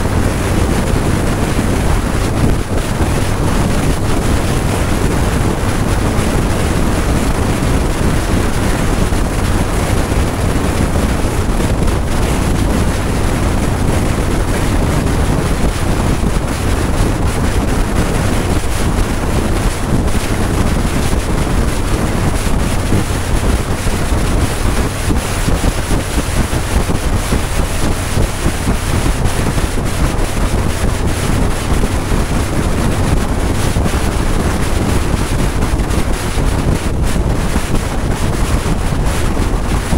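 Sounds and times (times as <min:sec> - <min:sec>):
engine and road rumble: 0:00.0 - 0:39.9
wind buffeting microphone: 0:00.0 - 0:39.9.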